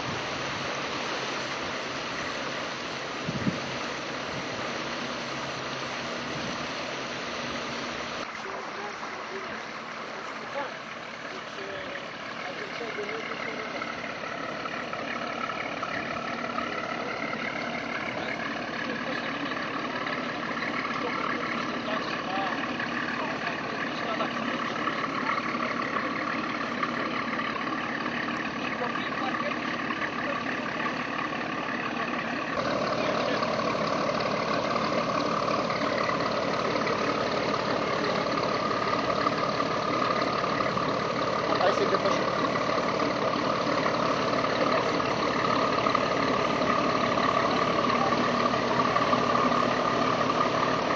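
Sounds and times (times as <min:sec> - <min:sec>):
motorboat engine running: 0:00.0 - 0:50.9
water rushing: 0:00.0 - 0:50.9
wind: 0:00.0 - 0:50.9.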